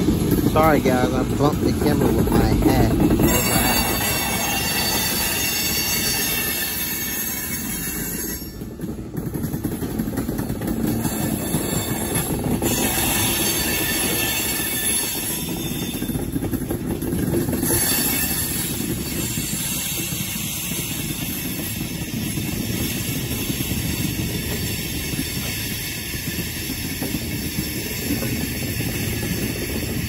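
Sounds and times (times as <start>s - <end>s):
train wheels rumbling on rails: 0.0s - 30.0s
high wheel squeal: 2.3s - 8.7s, 10.8s - 16.5s, 17.5s - 30.0s.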